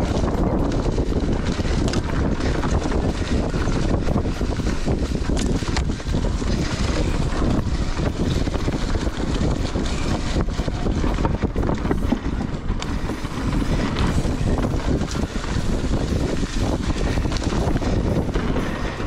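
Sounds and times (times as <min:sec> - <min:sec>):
bike knocks and rattles: 0:00.0 - 0:19.0
wind buffeting microphone: 0:00.0 - 0:19.0.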